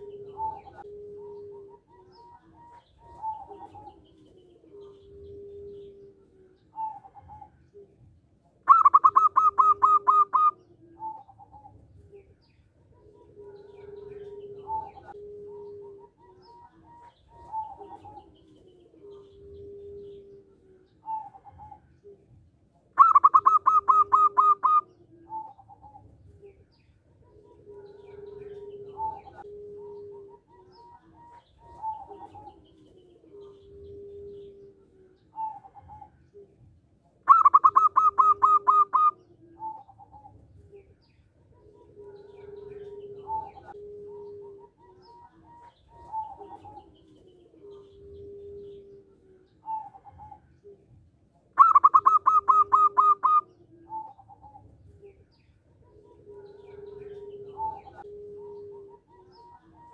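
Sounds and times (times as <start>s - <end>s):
dove cooing: 0.0s - 59.9s
dove singing staccato notes: 0.0s - 59.9s.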